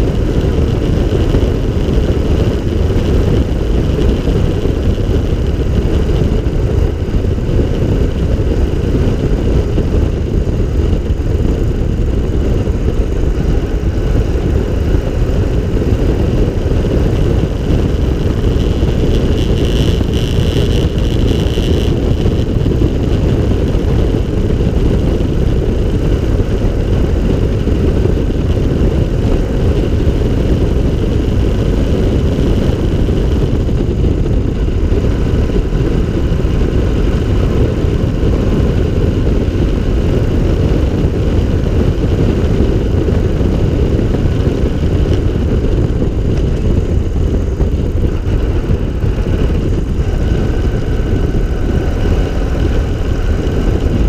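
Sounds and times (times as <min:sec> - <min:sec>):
car engine running: 0:00.0 - 0:54.0
road rumble: 0:00.0 - 0:54.0
wind rushing: 0:00.0 - 0:54.0.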